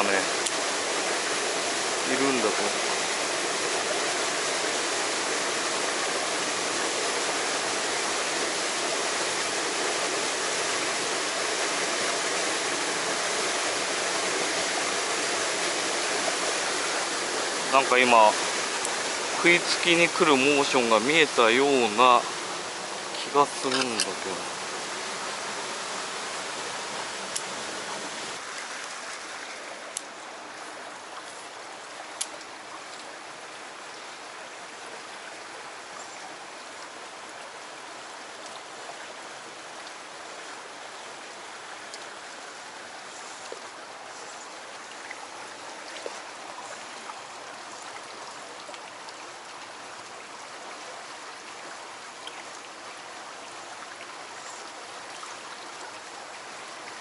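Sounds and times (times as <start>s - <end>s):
creek rushing over rocks: 0.0s - 57.0s.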